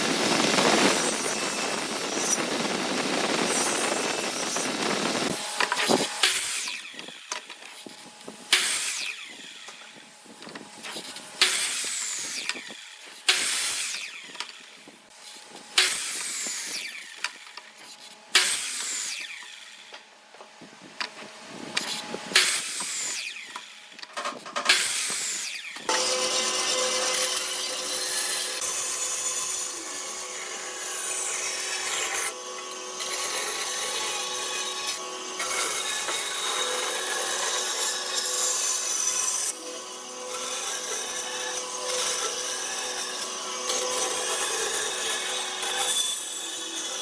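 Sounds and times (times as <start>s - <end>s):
tool working wood: 0.0s - 47.0s.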